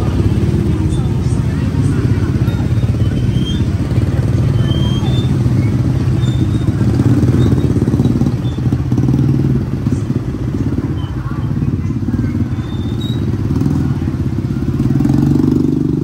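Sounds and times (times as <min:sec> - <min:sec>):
people talking: 0:00.0 - 0:16.0
scooter engines humming: 0:00.0 - 0:16.0.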